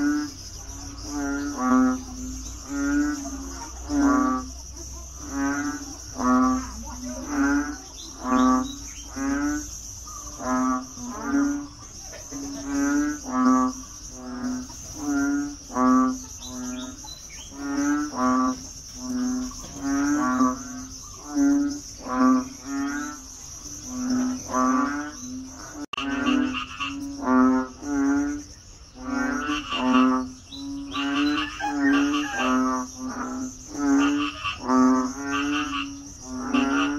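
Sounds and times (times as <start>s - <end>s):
frog croaking: 0.0s - 36.9s
insects chirping: 0.0s - 36.9s.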